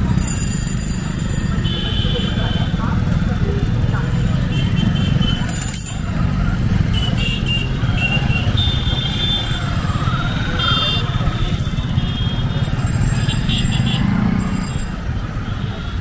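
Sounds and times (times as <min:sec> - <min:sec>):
motorcycle and scooter engines: 0:00.0 - 0:16.0.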